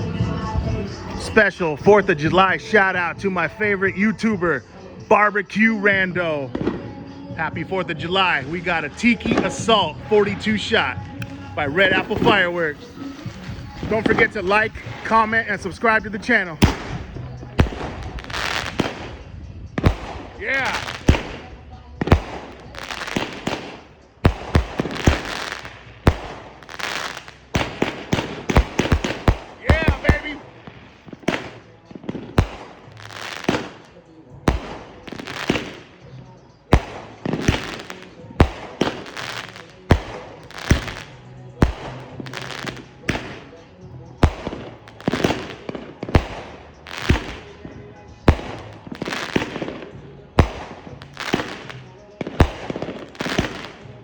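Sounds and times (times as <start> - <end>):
firework bangs: 0.0 - 36.1, 36.7 - 54.0
firework crackle: 5.9 - 36.0, 36.7 - 54.0.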